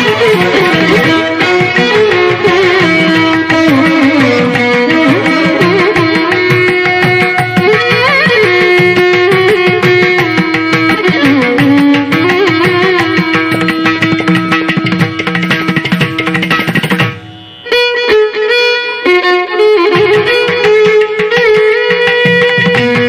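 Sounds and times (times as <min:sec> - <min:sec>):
indian classical instrumental music: 0:00.0 - 0:23.0.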